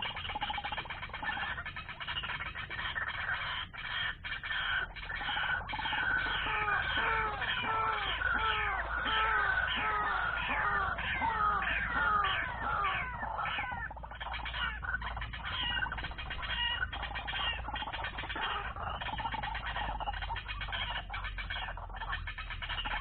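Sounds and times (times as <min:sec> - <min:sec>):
bird calls: 0:00.0 - 0:23.0
bird chatter: 0:00.0 - 0:23.0.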